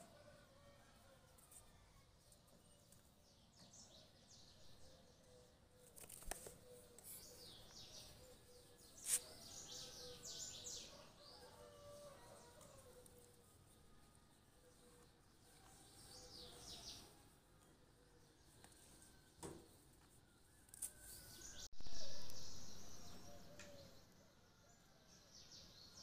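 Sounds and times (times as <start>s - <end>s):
faint birds chirping: 0.0s - 26.0s.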